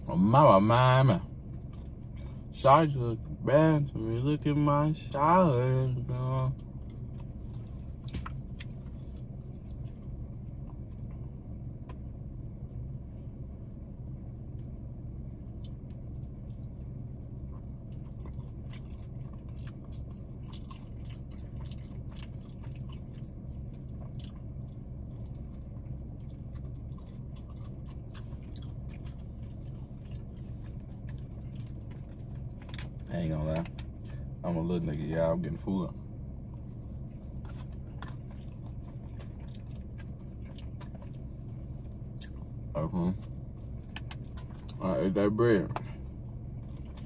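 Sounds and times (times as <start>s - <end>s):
low hum inside a car: 0.0s - 47.0s
chewing crunchy food: 1.3s - 3.3s, 4.7s - 12.0s, 14.5s - 34.9s, 36.0s - 47.0s.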